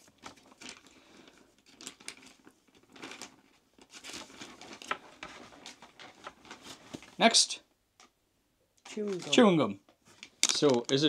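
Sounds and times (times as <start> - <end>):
plastic bag crinkling: 0.0 - 7.2, 8.9 - 11.0.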